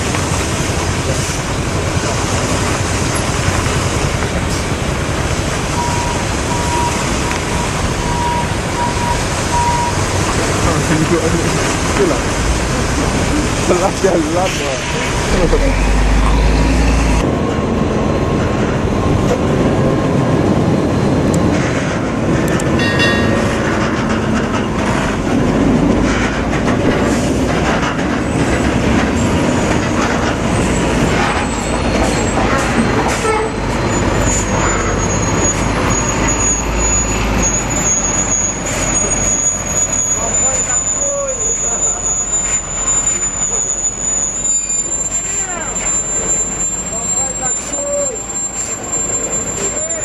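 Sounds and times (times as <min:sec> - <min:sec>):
truck engine and road rumble: 0:00.0 - 0:50.0.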